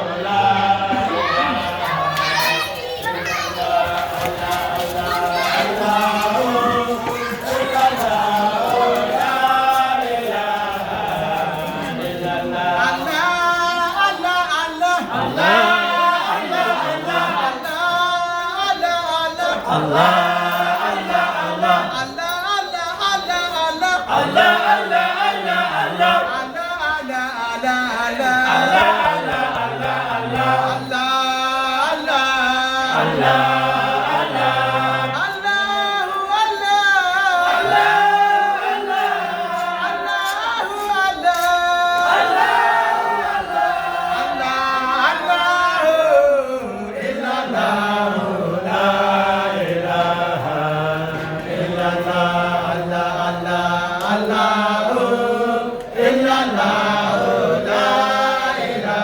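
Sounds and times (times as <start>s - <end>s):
group singing a praise chant: 0.0s - 59.0s.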